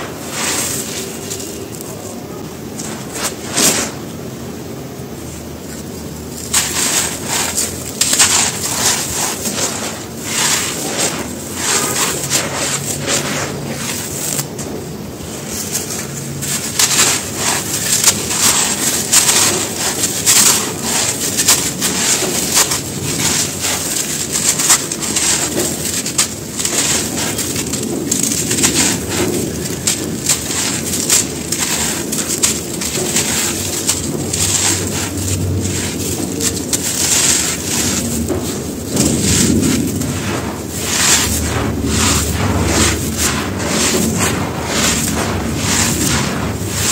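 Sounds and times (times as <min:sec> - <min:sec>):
hands crushing dry crumbly shapes: 0:00.0 - 0:04.2, 0:05.6 - 0:46.9
hands raking through powder: 0:00.0 - 0:04.2, 0:05.6 - 0:46.9.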